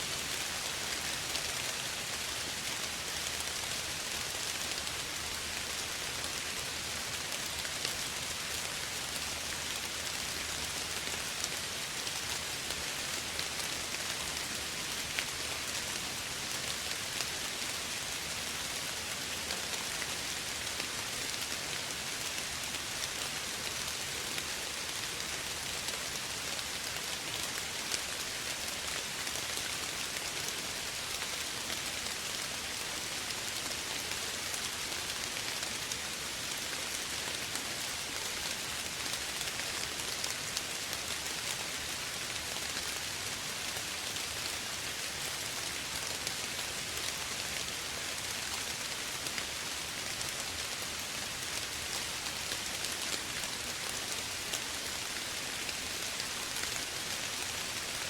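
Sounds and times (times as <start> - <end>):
soft rain hissing: 0.0 - 58.0.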